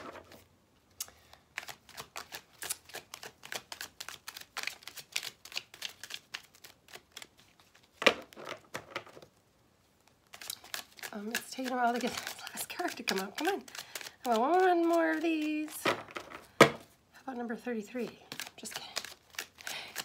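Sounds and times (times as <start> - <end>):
cards being shuffled: 1.2 - 9.4, 10.0 - 17.0, 18.2 - 20.0.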